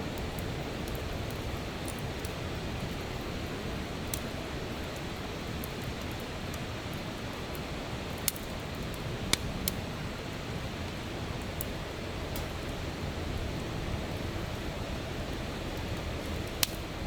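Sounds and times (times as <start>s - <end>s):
burning wood crackling and popping: 0.0s - 17.0s
fire rushing hiss: 0.0s - 17.0s.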